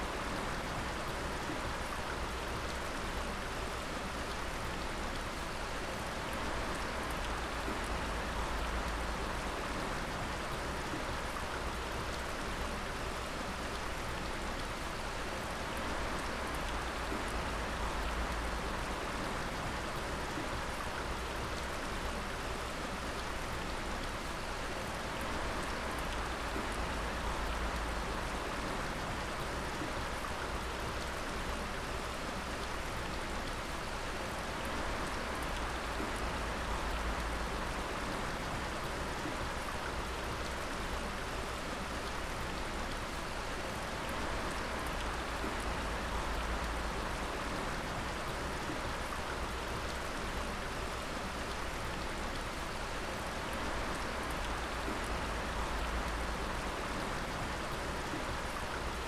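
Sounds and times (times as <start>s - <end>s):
water dripping and splashing: 0.1s - 59.0s.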